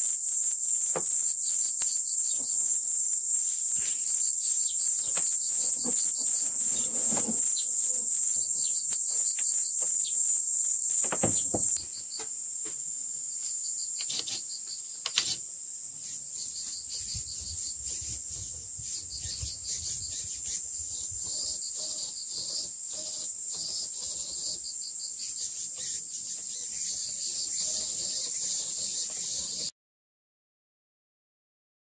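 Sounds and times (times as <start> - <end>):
insects chorus: 0.0 - 29.7.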